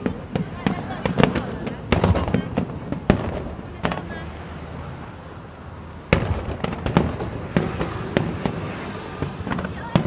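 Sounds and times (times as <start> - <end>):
fireworks small cracks: 0.0 - 4.6, 6.1 - 10.0
fireworks bangs: 0.0 - 5.2, 6.0 - 10.0
fireworks rumble: 0.0 - 10.0.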